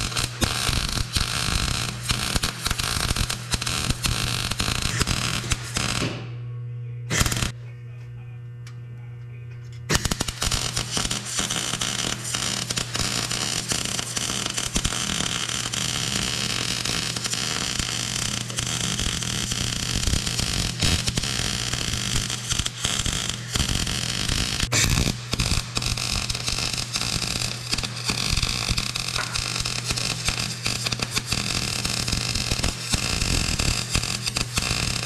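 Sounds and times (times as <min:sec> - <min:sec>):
welding arc crackling: 0:00.0 - 0:06.4, 0:07.1 - 0:07.6, 0:09.9 - 0:35.0
electrical hum: 0:00.0 - 0:35.0.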